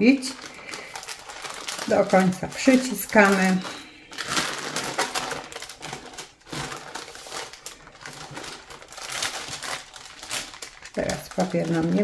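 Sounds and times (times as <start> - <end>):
baking paper crinkling: 0.0 - 12.0.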